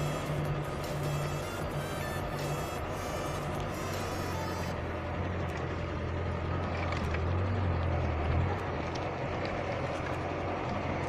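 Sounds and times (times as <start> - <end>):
car engine running: 0.0 - 11.0
water noise around car: 0.0 - 11.0.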